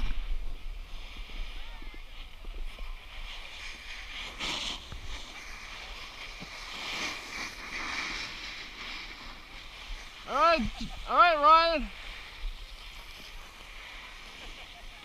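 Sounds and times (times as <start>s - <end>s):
snowboard scraping on snow: 0.0s - 15.0s.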